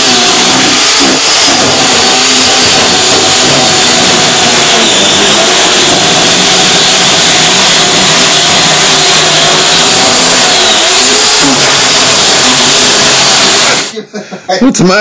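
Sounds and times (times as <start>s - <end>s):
chainsaw cutting through couch: 0.0s - 13.9s.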